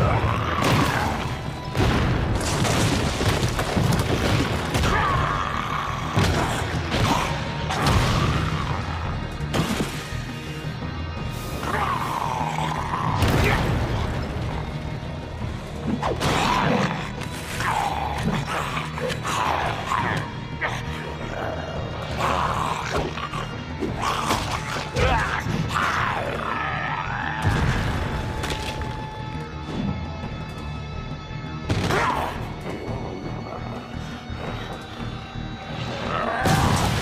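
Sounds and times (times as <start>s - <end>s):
dramatic background music: 0.0s - 37.0s.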